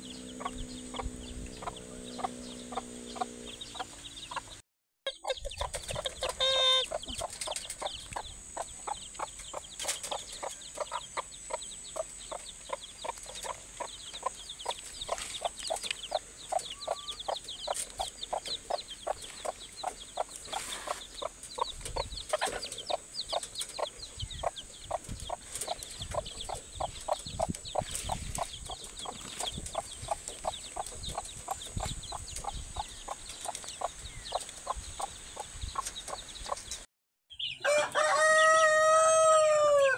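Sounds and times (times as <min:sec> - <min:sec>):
hens clucking: 0:00.0 - 0:36.8
chicks peeping: 0:00.0 - 0:39.8.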